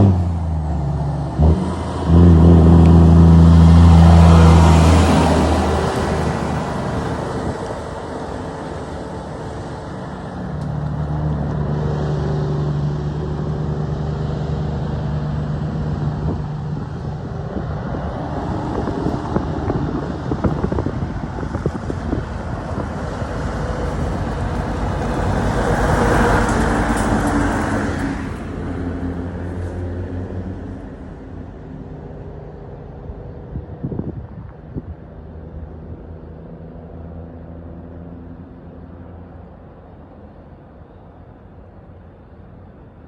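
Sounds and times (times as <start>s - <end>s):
diesel truck passing: 0.0s - 43.0s.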